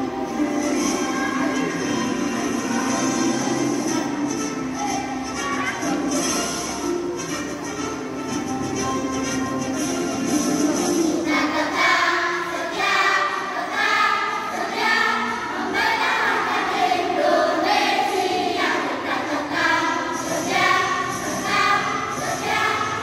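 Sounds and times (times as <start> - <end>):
children's choir singing: 0.0 - 7.2, 9.7 - 23.0.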